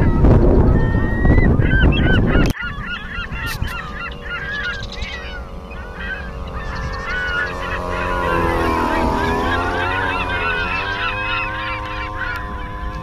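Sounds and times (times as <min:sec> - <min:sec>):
propeller aircraft engine drone: 0:00.0 - 0:13.0
wind rumble on microphone: 0:00.0 - 0:13.0
geese honking: 0:00.1 - 0:13.0.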